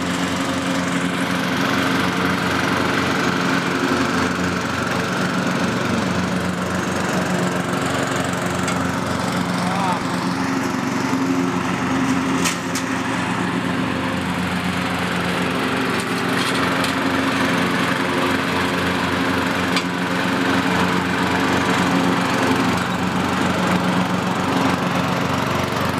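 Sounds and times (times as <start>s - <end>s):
riding lawn mower engine running: 0.0s - 25.9s.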